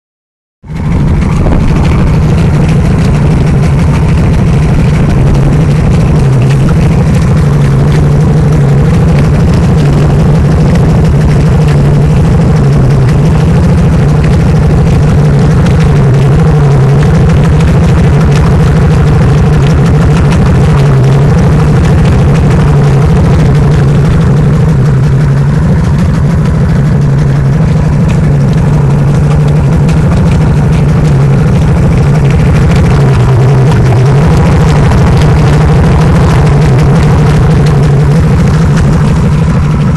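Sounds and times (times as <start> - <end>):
outboard motor idling: 0.6 - 39.9.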